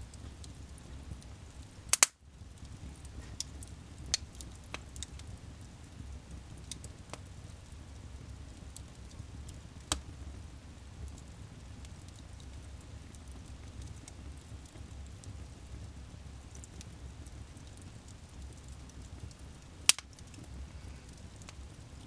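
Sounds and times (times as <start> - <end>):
low steady rumble: 0.0 - 22.0
wood fire crackling and popping: 0.0 - 22.0.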